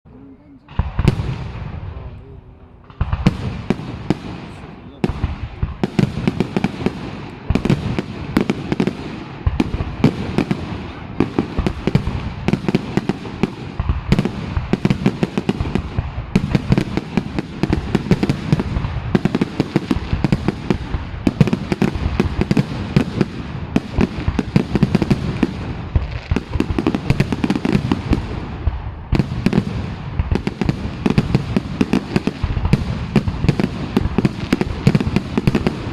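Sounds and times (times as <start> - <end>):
fireworks bangs and crackles: 0.5 - 35.9.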